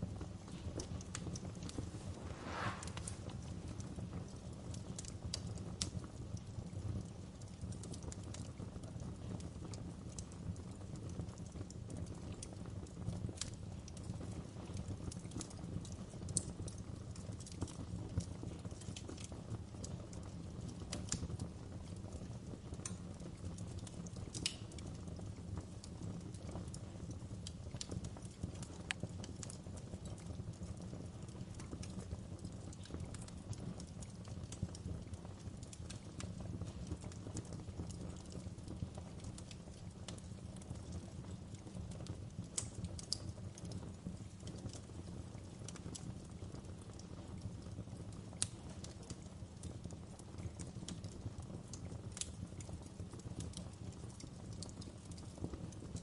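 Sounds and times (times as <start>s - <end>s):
burning logs crackling and popping: 0.0s - 56.0s
low rumble of flame: 0.0s - 56.0s.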